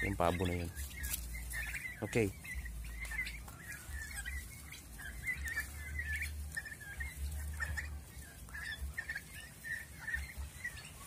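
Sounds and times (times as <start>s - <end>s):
young turkeys peeping: 0.0s - 11.0s.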